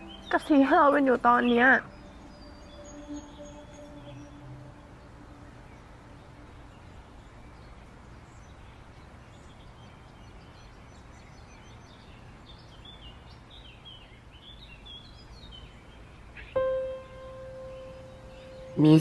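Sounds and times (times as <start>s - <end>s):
bird chirps: 0.0s - 19.0s.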